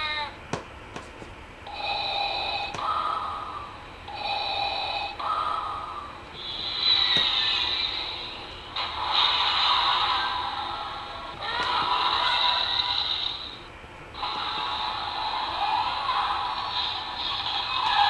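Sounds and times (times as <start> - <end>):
mechanical respirator breathing: 1.6 - 18.0.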